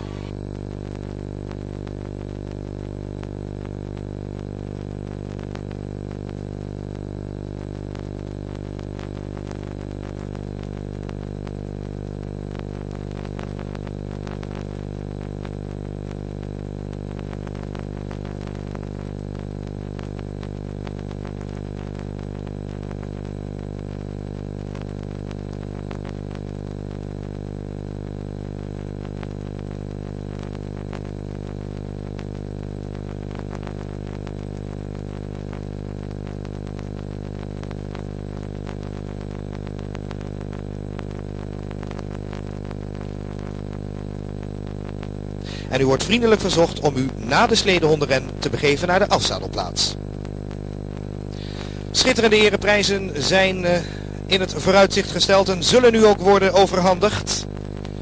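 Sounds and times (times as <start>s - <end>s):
electrical hum: 0.0s - 58.0s
faint crackle: 0.0s - 58.0s.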